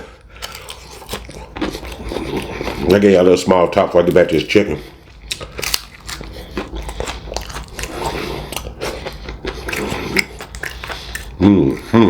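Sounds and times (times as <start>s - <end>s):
crunching fried chicken: 0.0s - 12.0s.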